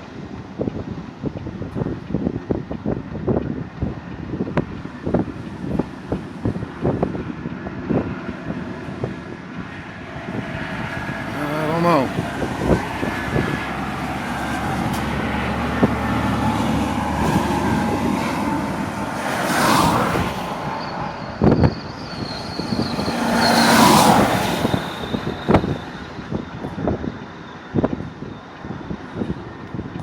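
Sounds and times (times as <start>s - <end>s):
truck engine hum: 0.0s - 29.9s
road noise: 0.0s - 30.0s
rushing swells: 4.0s - 29.6s.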